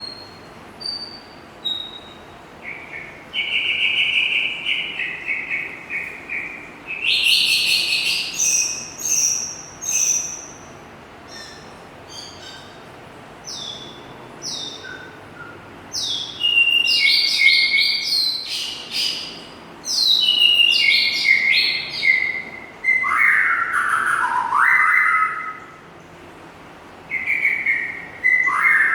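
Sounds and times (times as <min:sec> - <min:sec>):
songbird singing whistled phrases: 0:00.0 - 0:12.7, 0:13.4 - 0:25.8, 0:27.1 - 0:28.9.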